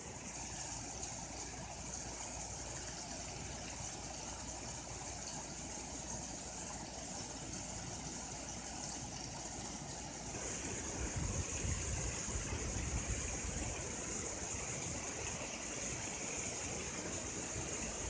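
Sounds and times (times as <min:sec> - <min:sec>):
water rushing down a spillway: 0:00.0 - 0:18.0.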